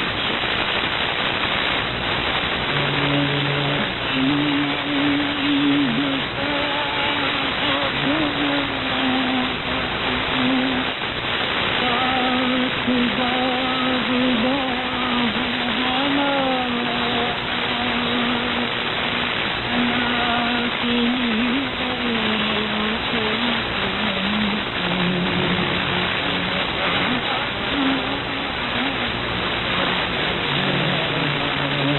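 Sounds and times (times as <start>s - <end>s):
faint radio music: 0.0s - 31.9s
static hiss: 0.0s - 31.9s.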